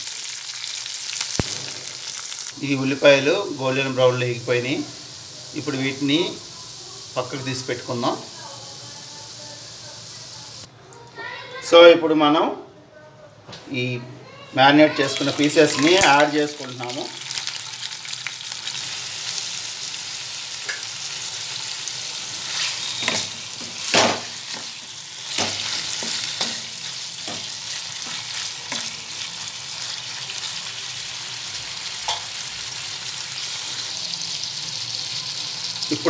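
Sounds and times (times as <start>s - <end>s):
chicken sizzling in hot oil: 0.0s - 10.7s, 14.9s - 36.0s.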